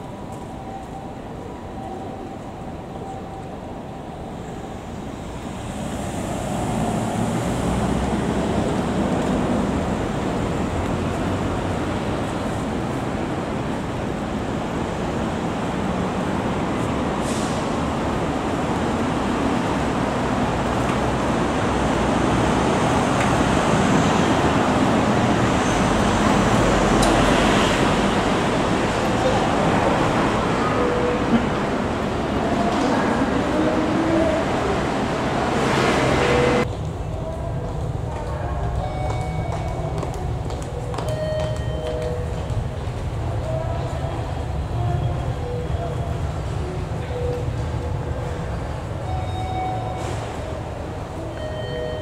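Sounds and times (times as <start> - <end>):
road traffic noise: 0.0 - 52.0
passing vehicles: 5.0 - 52.0.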